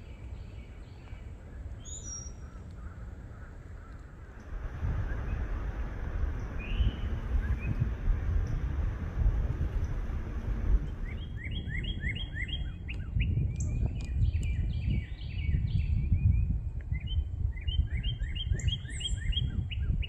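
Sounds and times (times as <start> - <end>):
songbird chirping: 0.0 - 16.2, 16.9 - 20.0
steady low rumble: 3.0 - 20.0.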